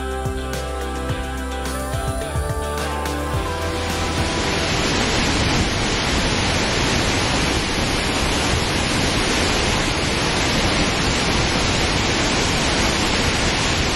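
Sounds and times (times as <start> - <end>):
rush of falling water: 0.0 - 13.9.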